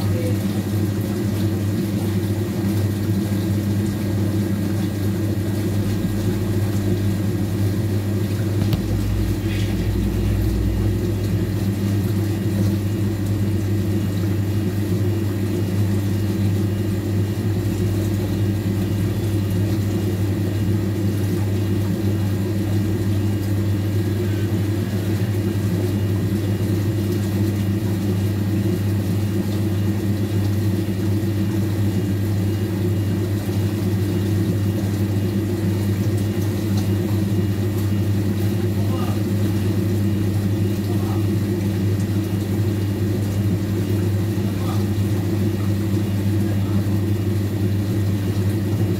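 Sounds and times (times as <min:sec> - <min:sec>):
washing machine motor hum: 0:00.0 - 0:48.9.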